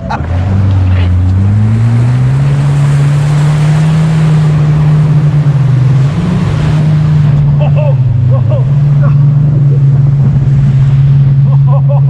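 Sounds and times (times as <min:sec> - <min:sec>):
jet ski engine accelerating: 0:00.0 - 0:12.0
wind noise: 0:01.4 - 0:12.0.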